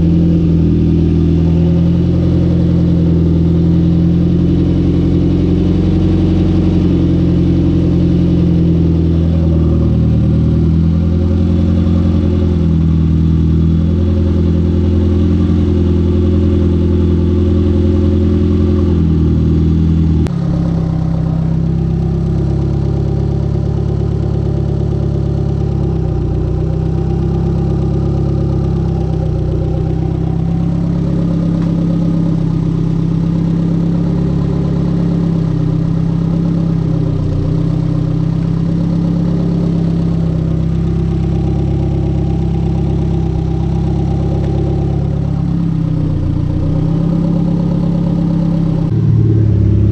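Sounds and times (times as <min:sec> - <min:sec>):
car engine running steadily: 0:00.0 - 0:49.9.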